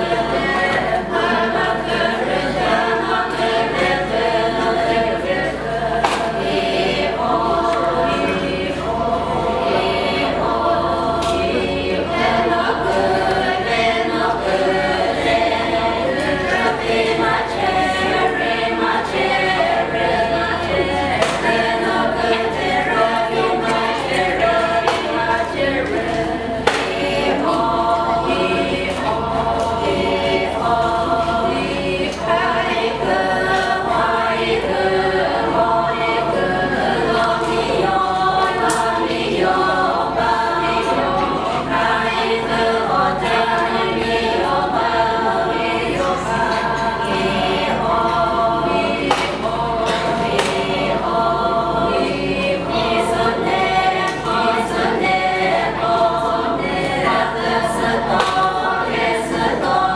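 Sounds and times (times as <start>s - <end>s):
women's choir singing a cappella: 0.0s - 59.9s.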